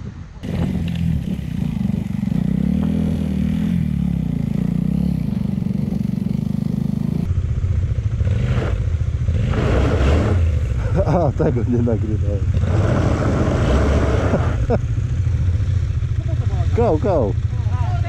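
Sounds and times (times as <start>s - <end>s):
motorcycle engine running: 0.4s - 18.0s.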